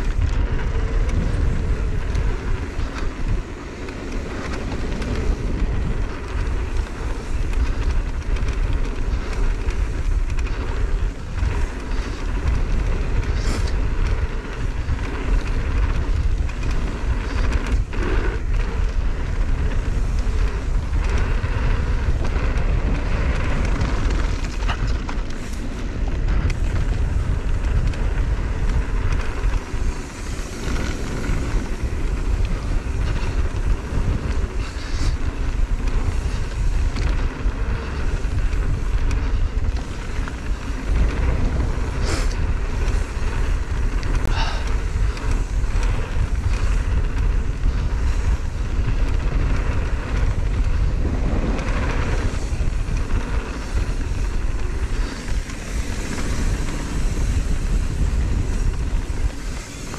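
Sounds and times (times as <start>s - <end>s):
bike knocks and rattles: 0.0s - 59.9s
tyres rumbling over dirt: 0.0s - 59.9s
wind buffeting microphone: 0.0s - 59.9s.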